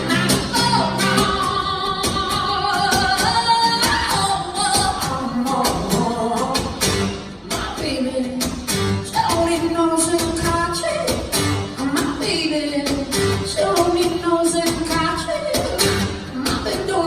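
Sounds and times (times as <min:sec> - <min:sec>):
band accompaniment: 0:00.0 - 0:17.0.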